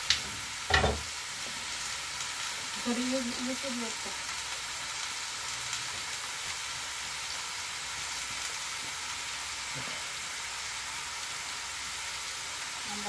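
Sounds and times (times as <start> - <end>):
patties sizzling in a frying pan: 0.0 - 13.0.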